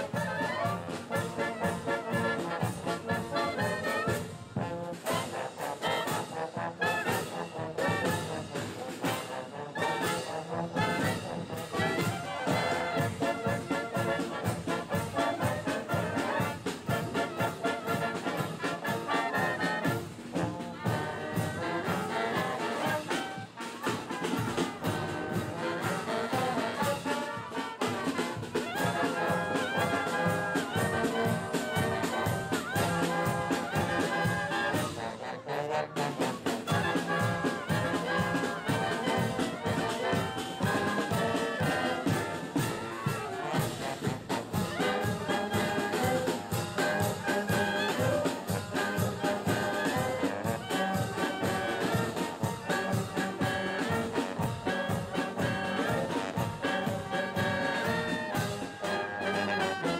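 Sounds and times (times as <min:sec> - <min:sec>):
wind band playing lively tune: 0:00.0 - 0:59.9.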